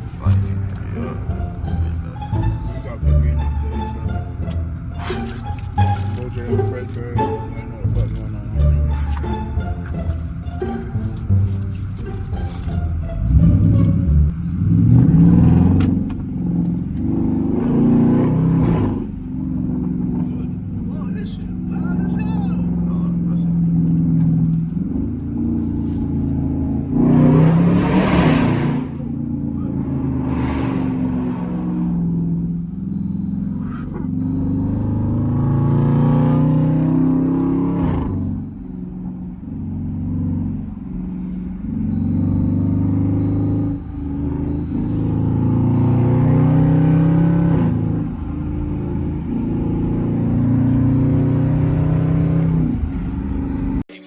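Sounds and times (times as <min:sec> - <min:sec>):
car exhaust drone: 0:00.0 - 0:53.9.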